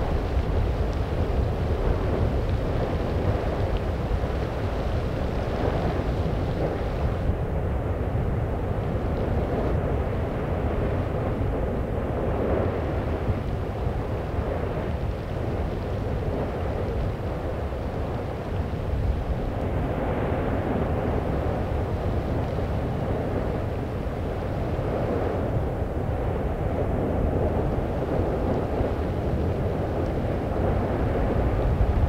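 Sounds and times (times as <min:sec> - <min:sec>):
volcano rumbling: 0:00.0 - 0:32.0.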